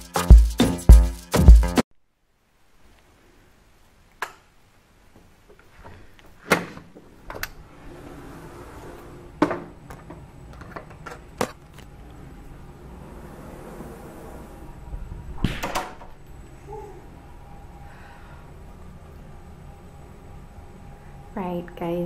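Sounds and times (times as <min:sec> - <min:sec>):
faint room hum: 0:02.0 - 0:22.0.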